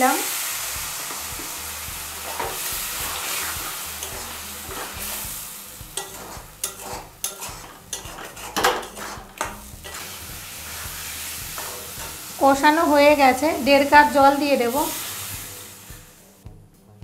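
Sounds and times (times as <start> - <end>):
potatoes sizzling in a pan: 0.0 - 16.4
metal spatula scraping pan: 1.1 - 15.4.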